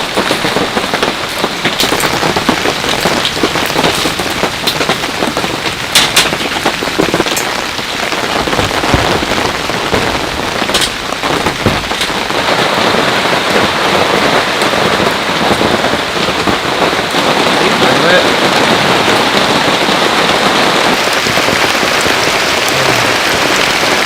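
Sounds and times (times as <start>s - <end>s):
heavy rain falling: 0.0s - 24.0s
sharp raindrop hits: 0.0s - 24.0s.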